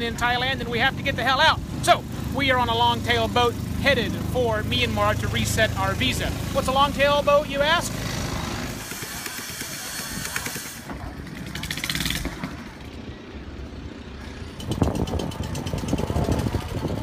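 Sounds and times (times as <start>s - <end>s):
boat engines running: 0.0s - 17.0s.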